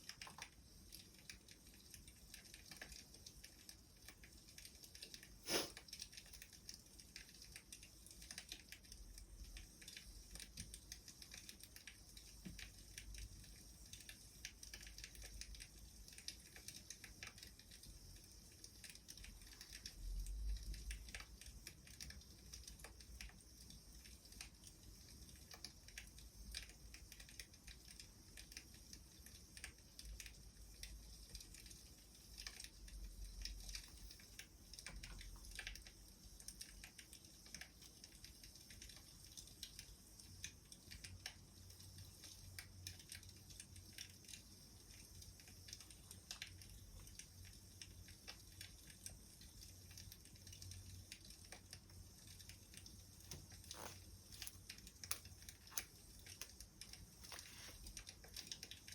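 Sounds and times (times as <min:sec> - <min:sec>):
faint wood fire crackling: 0:00.0 - 0:58.9.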